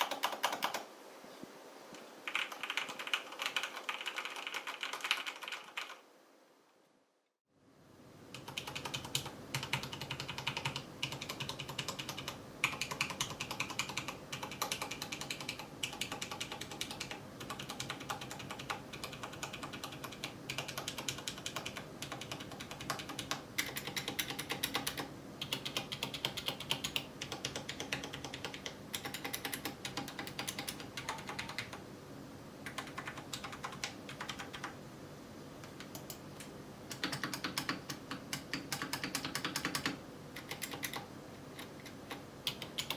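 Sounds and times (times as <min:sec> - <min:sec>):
mechanical keyboard typing: 0:00.0 - 0:00.9, 0:02.3 - 0:06.0, 0:08.3 - 0:31.8, 0:32.6 - 0:34.8, 0:36.9 - 0:42.9.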